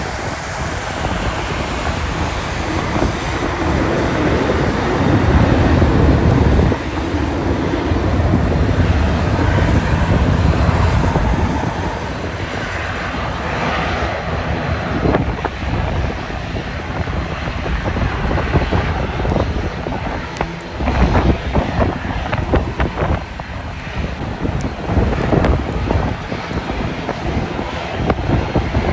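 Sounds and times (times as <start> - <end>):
jet engines roaring: 0.0 - 28.9
wind buffeting microphone: 0.0 - 28.9.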